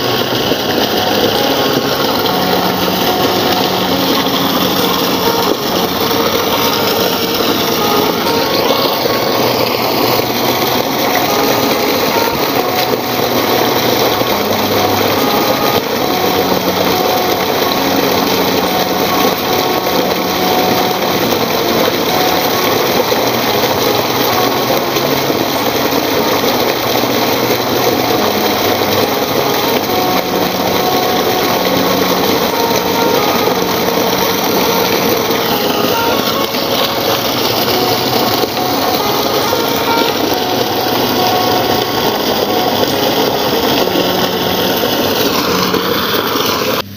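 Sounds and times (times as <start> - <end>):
background music with bass line: 0.0 - 46.2.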